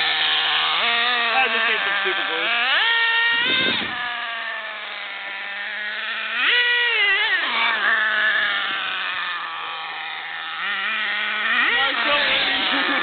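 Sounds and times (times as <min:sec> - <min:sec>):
small two-stroke engine revving: 0:00.0 - 0:13.0.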